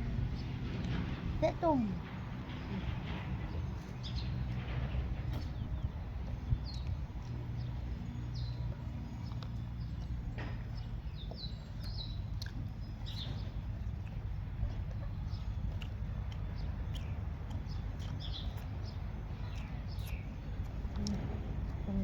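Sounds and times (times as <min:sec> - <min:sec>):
birds chirping: 0:00.0 - 0:22.0
low steady rumble: 0:00.0 - 0:22.0.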